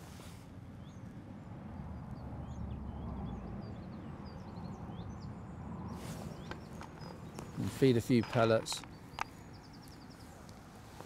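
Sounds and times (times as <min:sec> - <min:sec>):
low wind rumble: 0:00.0 - 0:11.0
small birds chirping: 0:00.0 - 0:11.0.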